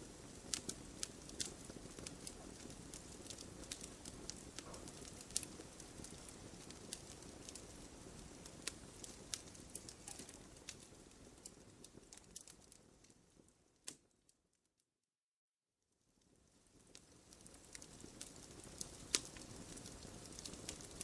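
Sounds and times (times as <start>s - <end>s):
wood fire crackling: 0.0s - 14.5s, 16.0s - 21.0s.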